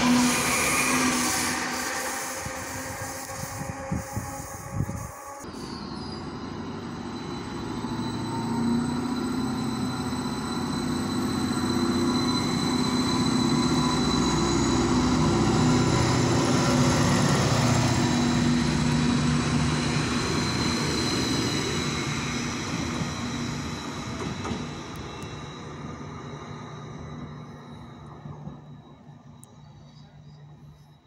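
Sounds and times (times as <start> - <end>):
train running past: 0.0 - 31.0.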